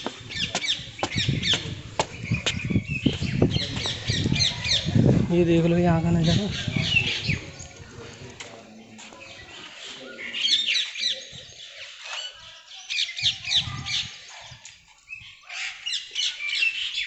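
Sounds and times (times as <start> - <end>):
birds chirping and squawking: 0.0 - 5.2, 5.8 - 17.0.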